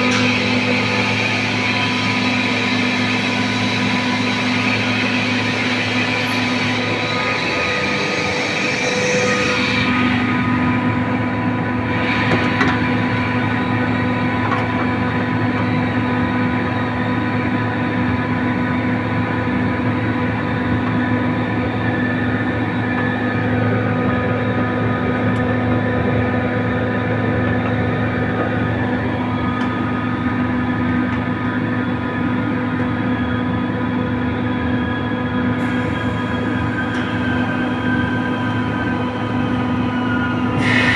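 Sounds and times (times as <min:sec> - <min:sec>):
compressor humming and whining: 0:00.0 - 0:40.9.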